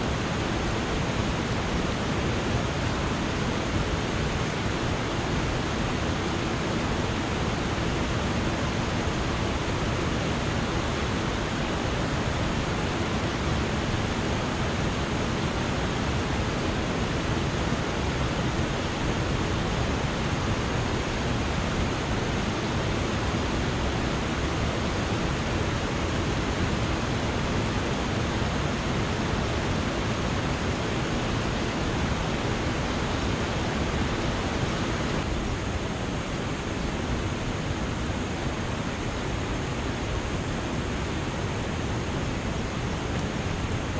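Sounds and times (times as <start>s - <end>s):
water rushing over a dam: 0.0s - 43.9s.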